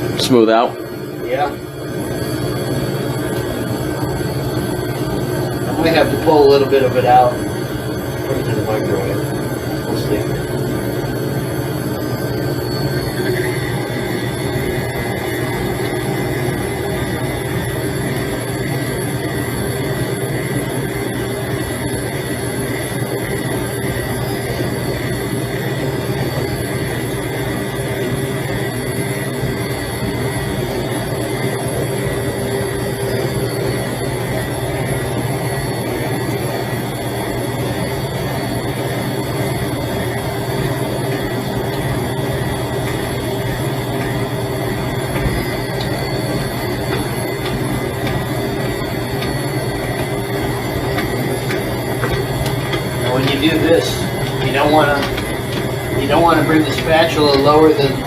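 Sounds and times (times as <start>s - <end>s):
stand mixer beating: 0.0s - 58.0s.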